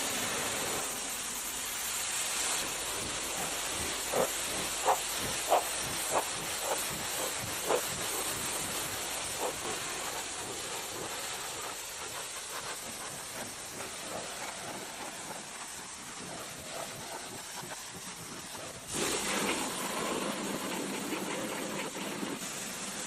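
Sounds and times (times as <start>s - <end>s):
steady hissing noise: 0.0s - 23.0s.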